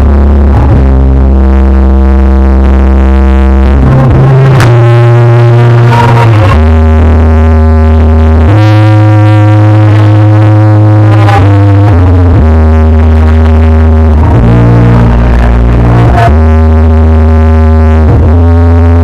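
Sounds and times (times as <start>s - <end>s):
loud remix music with synth bass: 0.0s - 19.0s.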